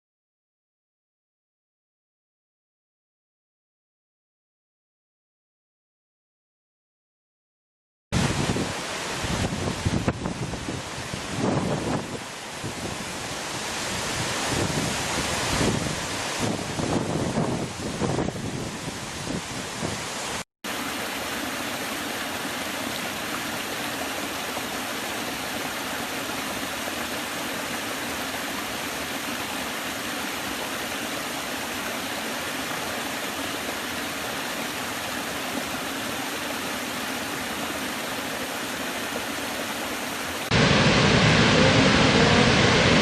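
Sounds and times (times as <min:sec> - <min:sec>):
waterfall rushing: 0:08.2 - 0:43.0.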